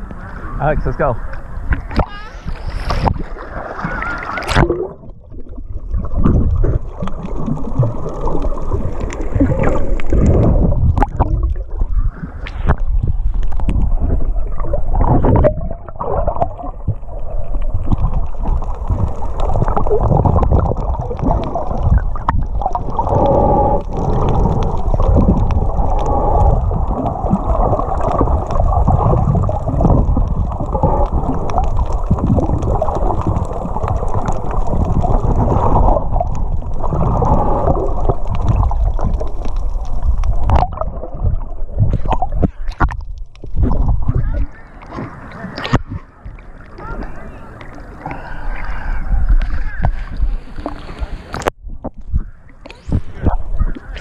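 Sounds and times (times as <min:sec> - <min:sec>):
muffled underwater sloshing: 0:00.0 - 0:54.0.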